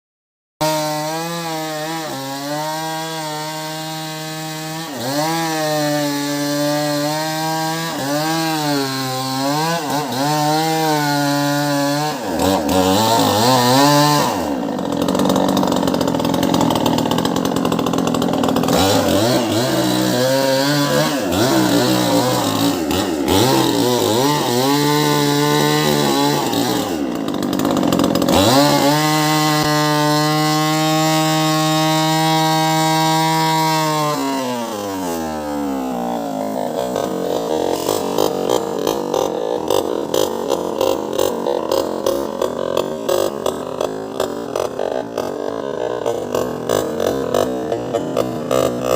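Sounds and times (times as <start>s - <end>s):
chainsaw cutting through tree trunk: 0.6s - 48.9s.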